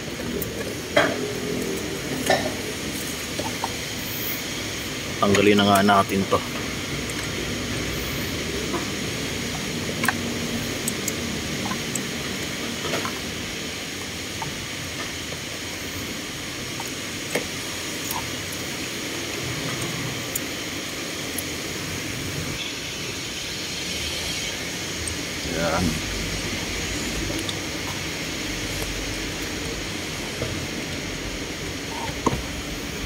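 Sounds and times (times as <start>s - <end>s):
steady hissing noise: 0.0s - 33.0s.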